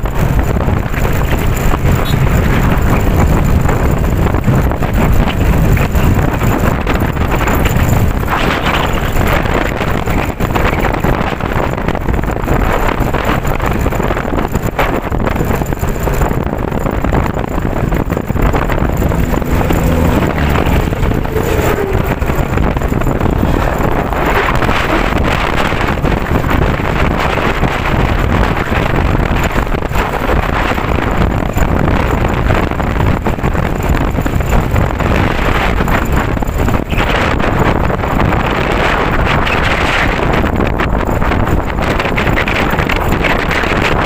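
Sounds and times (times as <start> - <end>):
strong wind buffeting microphone: 0.0 - 44.0.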